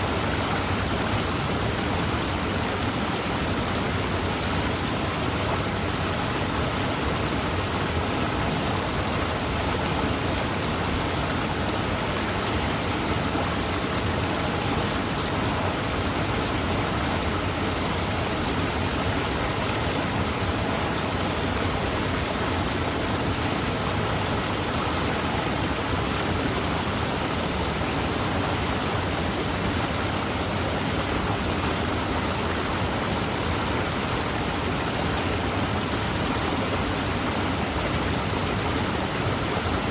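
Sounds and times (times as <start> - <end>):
fast river flowing: 0.0 - 39.9.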